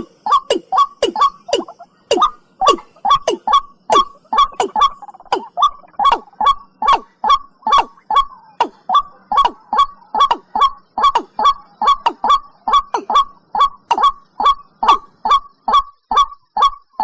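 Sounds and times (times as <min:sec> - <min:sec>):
bird gulping calls: 0:00.0 - 0:17.0.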